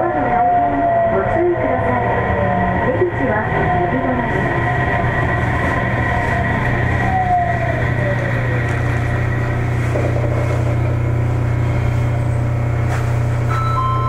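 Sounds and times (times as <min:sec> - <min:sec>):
train rumble and hum: 0:00.0 - 0:14.0.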